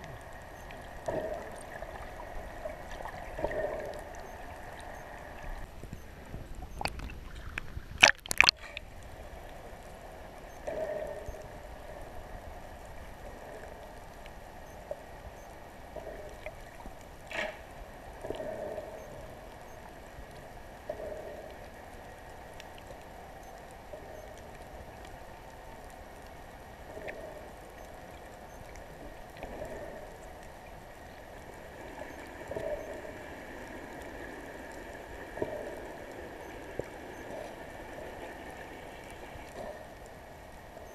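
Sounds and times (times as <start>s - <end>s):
muffled underwater wash: 0.0s - 40.9s.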